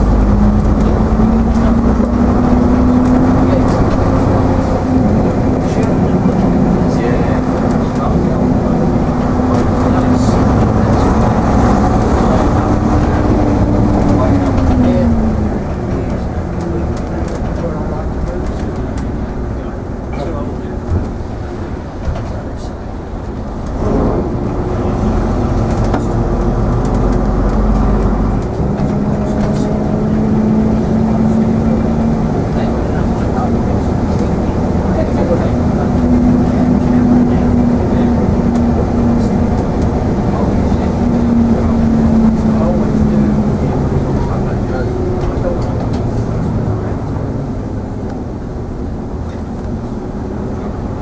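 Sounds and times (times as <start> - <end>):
bus diesel engine droning: 0.0 - 51.0
road noise: 0.0 - 51.0.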